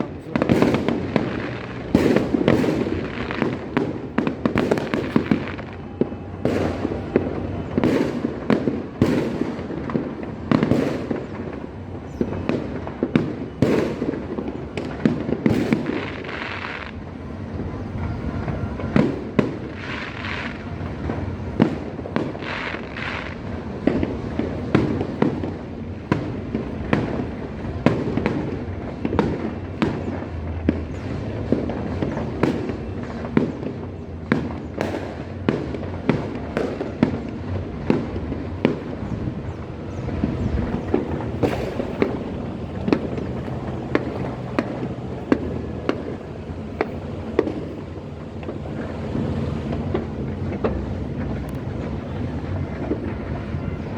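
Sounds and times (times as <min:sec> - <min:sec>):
distant explosions rumbling: 0:00.0 - 0:53.9
fireworks bangs and pops: 0:00.0 - 0:53.9
fireworks crackling: 0:00.0 - 0:53.9.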